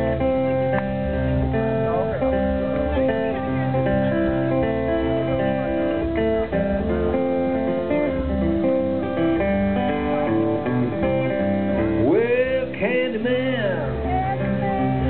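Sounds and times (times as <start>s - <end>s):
fingerpicked acoustic guitar blues: 0.0s - 15.0s.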